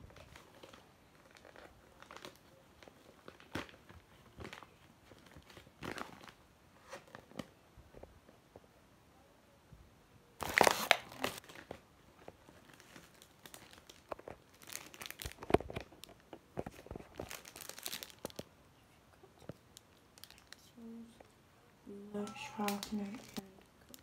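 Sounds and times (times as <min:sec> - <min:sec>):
packaging crinkling and rustling: 0:00.0 - 0:08.1, 0:10.4 - 0:18.5, 0:19.4 - 0:20.7, 0:22.2 - 0:24.0.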